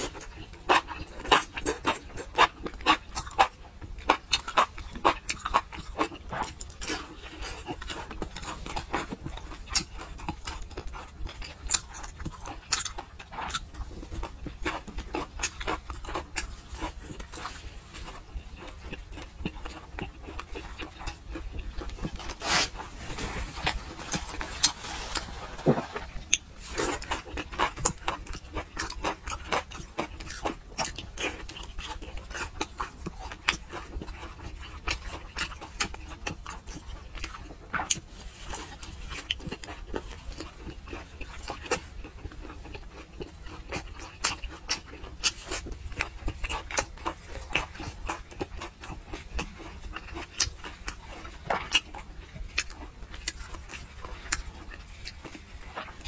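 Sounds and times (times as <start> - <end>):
person chewing and lip-smacking: 0.0 - 56.0.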